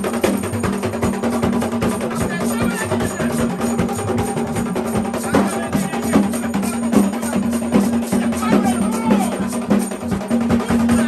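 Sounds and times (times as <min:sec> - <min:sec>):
drumming and percussion: 0:00.0 - 0:11.0.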